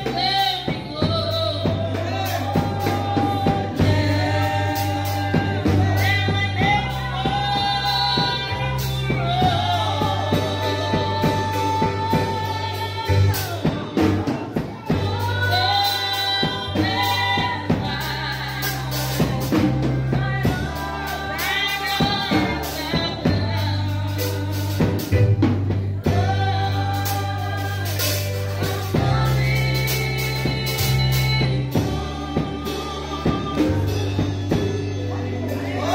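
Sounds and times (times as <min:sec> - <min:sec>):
gospel choir singing: 0:00.0 - 0:35.9
live band with bass and drums: 0:00.0 - 0:35.9.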